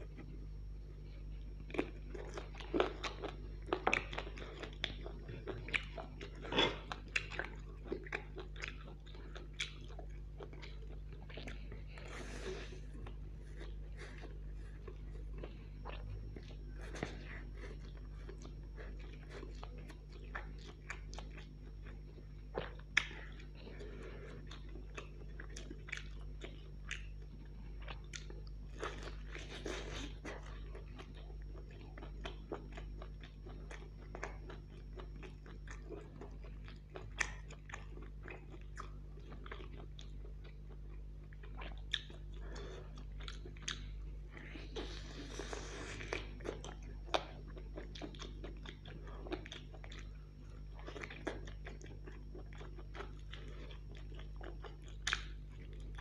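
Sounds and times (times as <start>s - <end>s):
chewing and crunching food: 0.0s - 56.0s
steady low hum: 0.0s - 56.0s.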